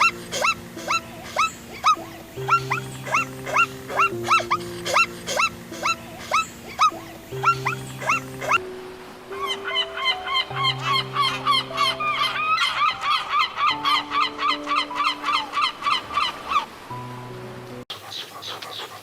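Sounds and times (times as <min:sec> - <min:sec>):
animal crying: 0:00.0 - 0:08.6, 0:09.3 - 0:16.7
background music with held chords: 0:00.0 - 0:17.9.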